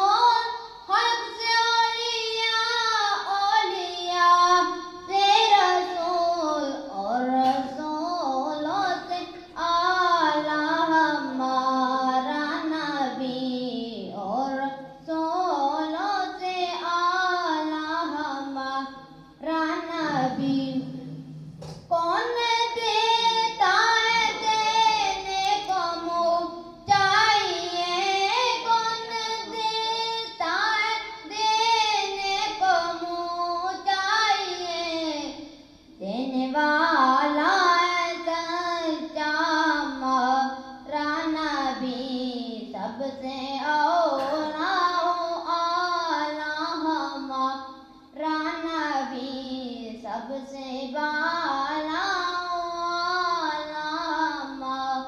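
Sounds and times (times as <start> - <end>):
boy singing devotional verse: 0.0 - 55.0.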